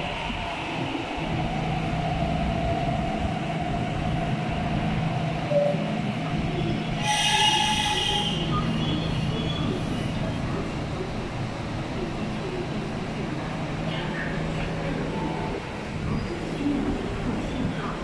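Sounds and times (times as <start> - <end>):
train interior hum: 0.0 - 18.0.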